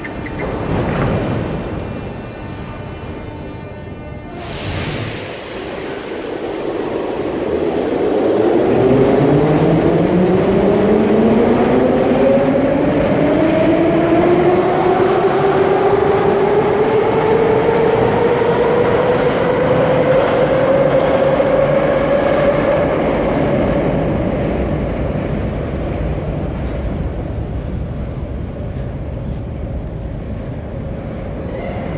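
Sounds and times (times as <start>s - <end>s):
metro train motors whining: 0.0s - 31.9s
wheels rumbling on rail: 0.0s - 31.9s.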